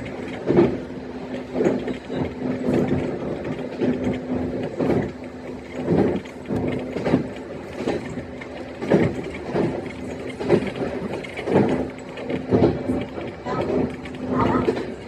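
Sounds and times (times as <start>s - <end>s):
electric train hum: 0.0s - 15.0s
train knocks and rattles: 0.0s - 15.0s.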